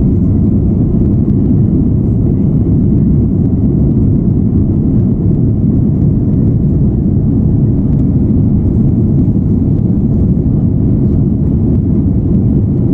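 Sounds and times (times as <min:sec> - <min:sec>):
airliner engines rumbling: 0:00.0 - 0:12.9.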